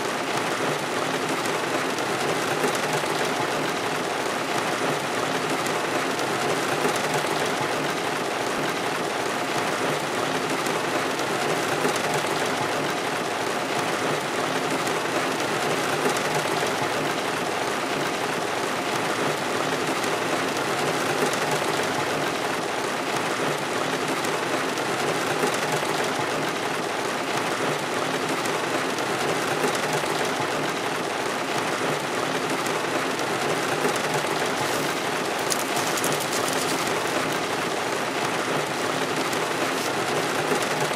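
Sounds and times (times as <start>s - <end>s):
heavy rain on a car roof: 0.0s - 40.9s.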